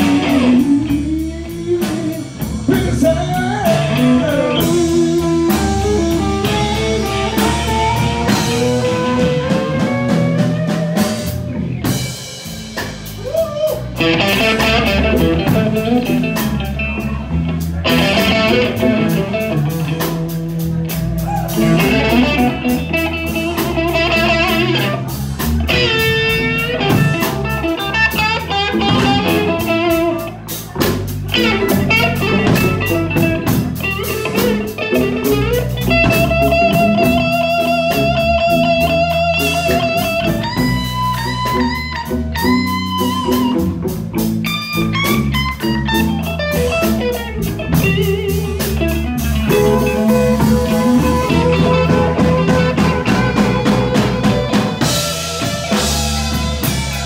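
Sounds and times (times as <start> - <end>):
bass: 0.0 - 57.0
blues guitar with bent notes: 0.0 - 57.0
drum kit: 0.0 - 57.0.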